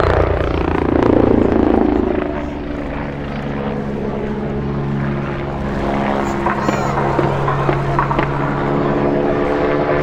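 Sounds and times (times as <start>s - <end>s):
helicopter flying overhead: 0.0s - 10.0s.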